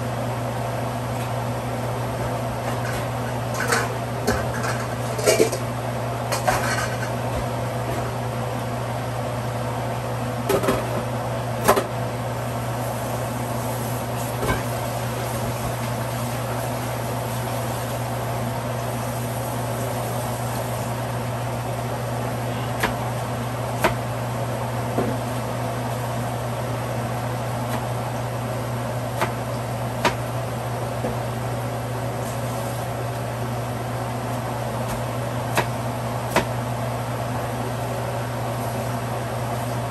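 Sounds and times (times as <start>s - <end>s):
mechanical hum with hiss: 0.0s - 39.9s.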